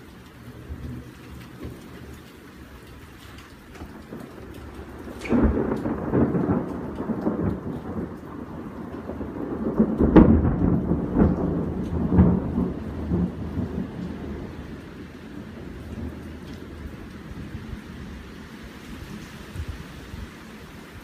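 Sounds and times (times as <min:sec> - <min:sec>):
steady rain: 0:00.0 - 0:21.0
thunder crack and rumbles: 0:03.4 - 0:20.3.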